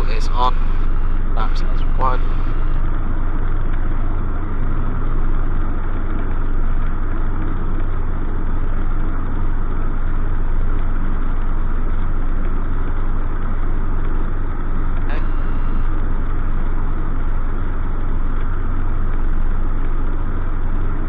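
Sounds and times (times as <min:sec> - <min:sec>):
airplane engine deep hum: 0:00.0 - 0:21.0.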